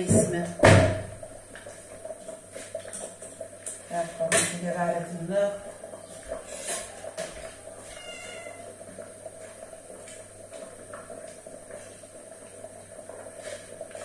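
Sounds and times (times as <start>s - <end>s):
gas stove burner running: 0.0s - 14.0s.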